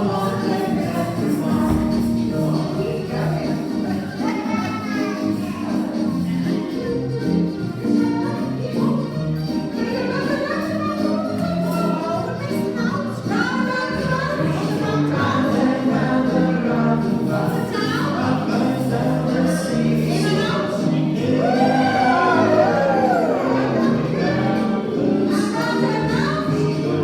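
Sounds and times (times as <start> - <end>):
voices singing a song: 0.0 - 11.9, 13.1 - 27.0.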